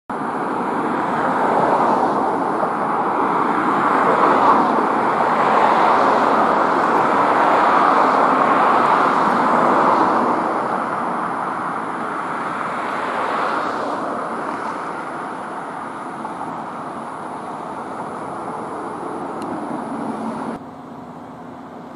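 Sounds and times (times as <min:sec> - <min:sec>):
vehicle rumble: 0:00.1 - 0:21.9.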